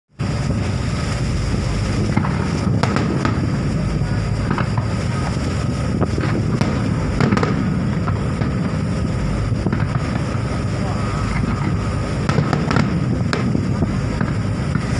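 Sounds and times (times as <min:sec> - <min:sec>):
fireworks booming: 0:00.2 - 0:14.9
fireworks cracking: 0:00.2 - 0:14.9.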